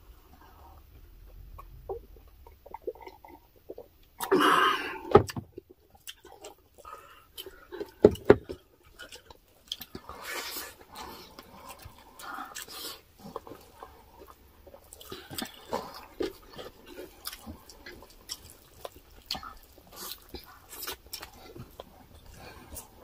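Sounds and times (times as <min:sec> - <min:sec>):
chewing and mouth noises: 0:00.1 - 0:23.0.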